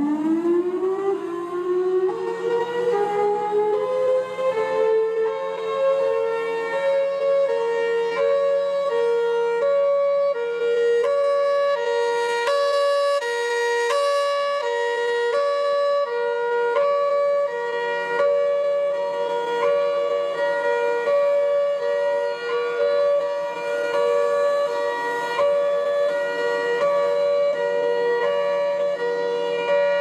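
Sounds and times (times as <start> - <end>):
two-tone siren: 0.0 - 30.0.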